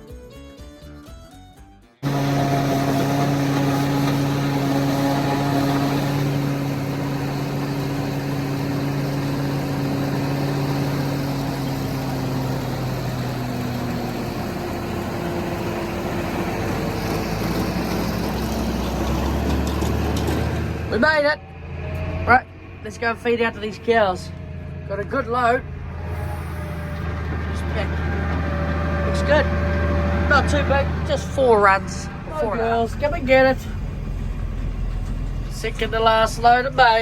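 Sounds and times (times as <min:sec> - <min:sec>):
tractor engine running: 0:02.0 - 0:37.0.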